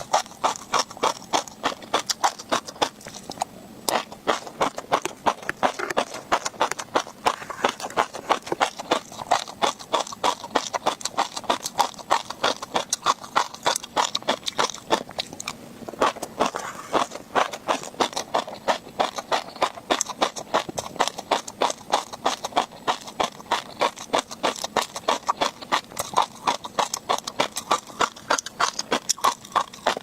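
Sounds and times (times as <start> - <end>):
chewing crunchy fish roe: 0.0 - 30.0.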